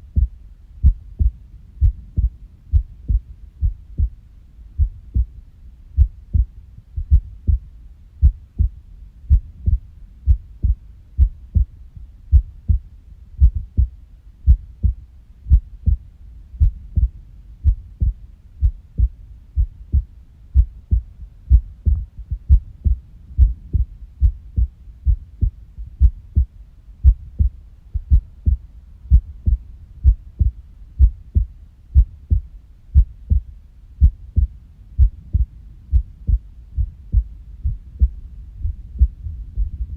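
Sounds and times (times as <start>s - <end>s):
heartbeat thumps: 0.0s - 4.2s, 4.8s - 5.4s, 6.0s - 39.9s.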